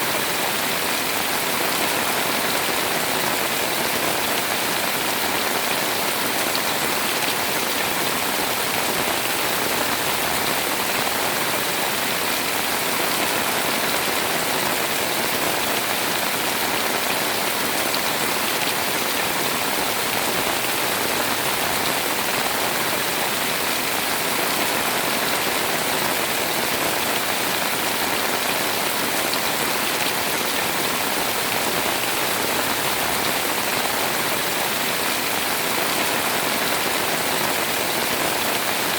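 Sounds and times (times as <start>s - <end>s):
heavy rain on a house: 0.0s - 38.9s.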